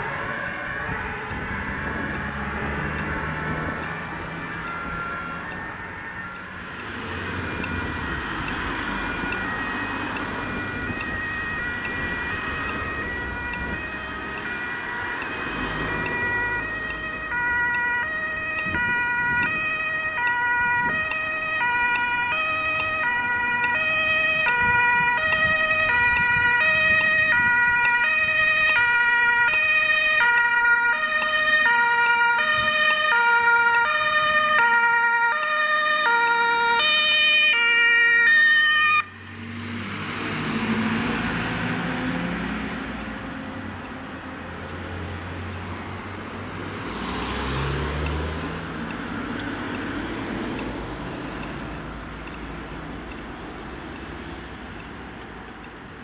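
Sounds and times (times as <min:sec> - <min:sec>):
two-tone emergency siren: 0:00.0 - 0:45.6
traffic passing: 0:00.0 - 0:56.0.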